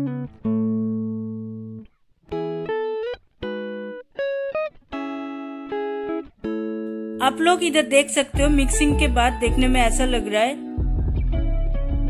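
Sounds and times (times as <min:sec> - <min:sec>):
plucked guitar-like music: 0:00.0 - 0:12.0.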